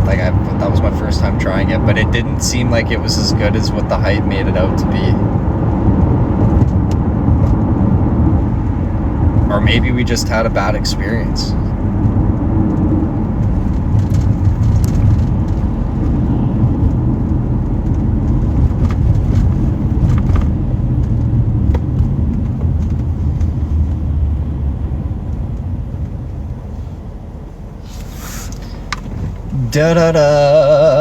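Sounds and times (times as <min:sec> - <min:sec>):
road and engine rumble in cabin: 0:00.0 - 0:31.0.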